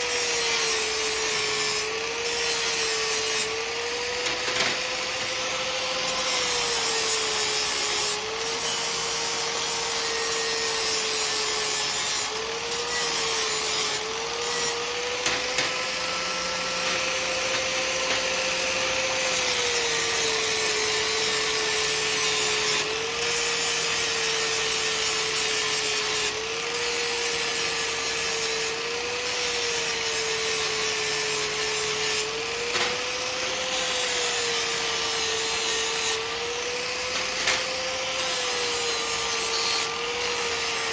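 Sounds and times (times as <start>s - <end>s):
electric grinder grinding metal: 0.0s - 40.9s.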